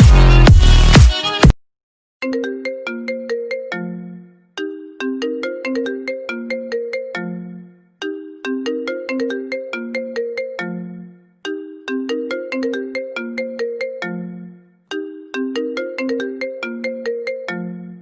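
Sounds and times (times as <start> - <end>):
phone ringtone melody: 2.2 - 18.0.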